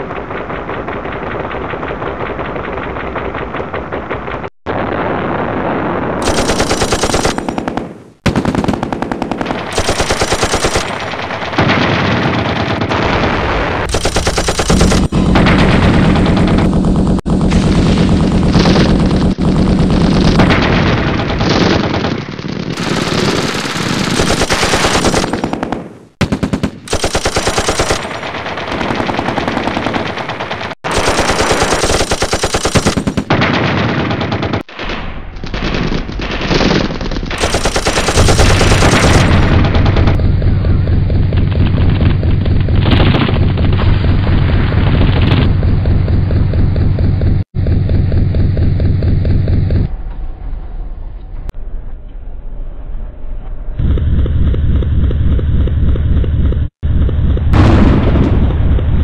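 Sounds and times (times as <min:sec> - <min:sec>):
harsh rapid-fire rattling: 0:00.0 - 0:05.4, 0:06.2 - 0:49.9.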